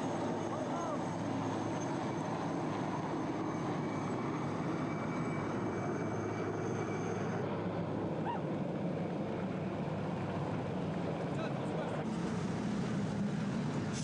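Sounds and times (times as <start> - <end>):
helicopter rotor and engine: 0.0 - 14.0
high turbine whine: 0.0 - 14.0.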